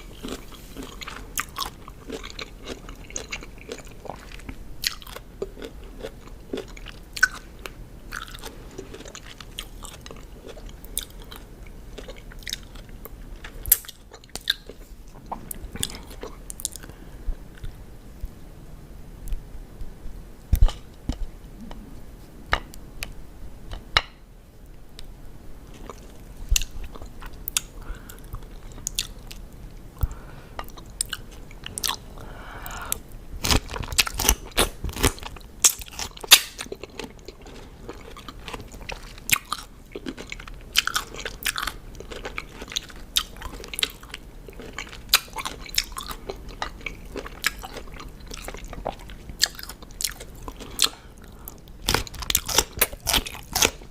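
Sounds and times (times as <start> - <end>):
crunching and chewing cucumber: 0.0 - 16.9, 25.7 - 29.5, 30.6 - 53.9.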